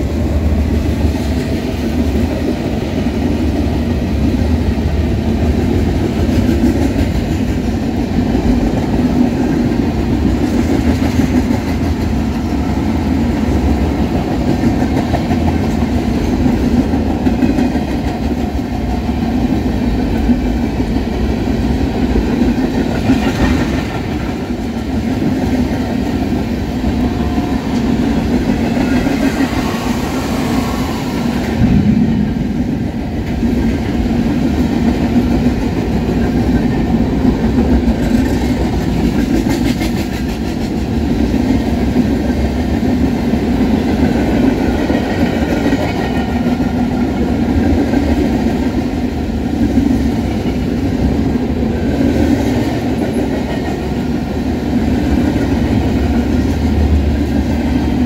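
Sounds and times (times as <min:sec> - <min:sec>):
clickety-clack over rail joints: 0:00.0 - 0:58.0
train wheels rumbling on rail: 0:00.0 - 0:58.0.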